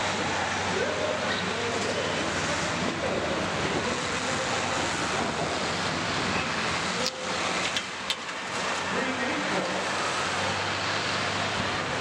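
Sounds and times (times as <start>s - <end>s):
diesel engines running: 0.0s - 12.0s
steady rushing noise: 0.0s - 12.0s.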